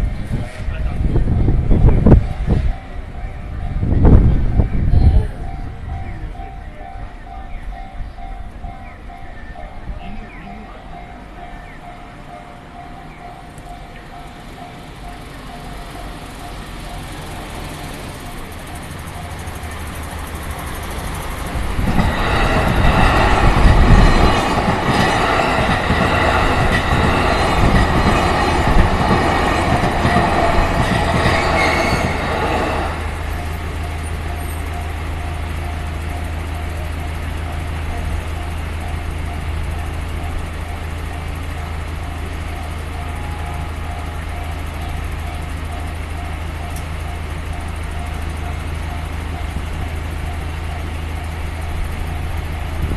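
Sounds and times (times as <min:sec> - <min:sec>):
crossing warning bell ringing: 0:00.0 - 0:52.9
electric train passing: 0:00.0 - 0:52.9
wheel and rail noise: 0:00.0 - 0:52.9.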